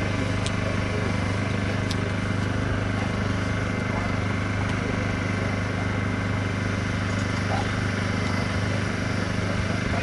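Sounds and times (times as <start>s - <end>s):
faint voices: 0.0s - 10.0s
low mechanical hum: 0.0s - 10.0s.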